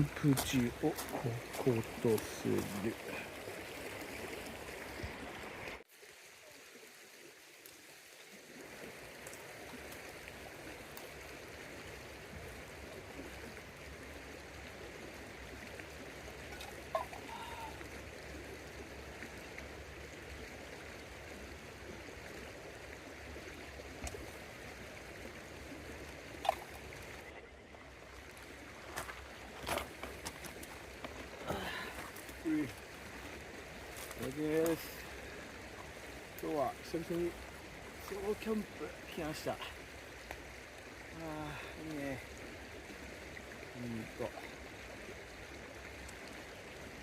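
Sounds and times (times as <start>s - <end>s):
river water flowing: 0.0s - 47.0s.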